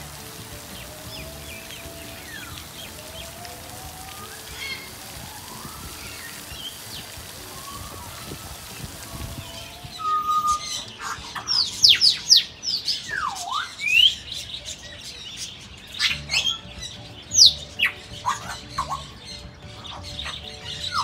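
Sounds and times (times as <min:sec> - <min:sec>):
birds whistling: 0:00.8 - 0:21.0.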